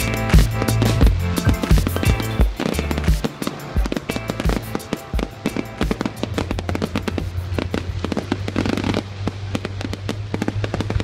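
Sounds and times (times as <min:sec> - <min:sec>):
music playing: 0:00.0 - 0:09.8
fireworks crackling and banging: 0:00.0 - 0:11.0.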